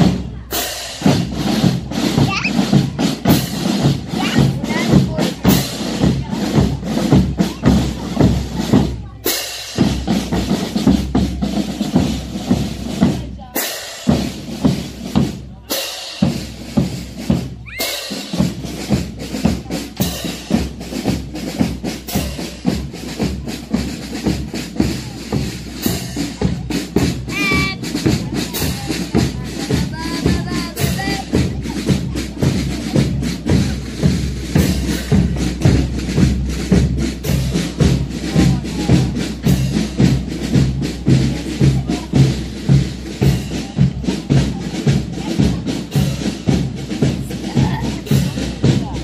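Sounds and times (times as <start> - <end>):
music with steady drum beat: 0.0 - 49.0.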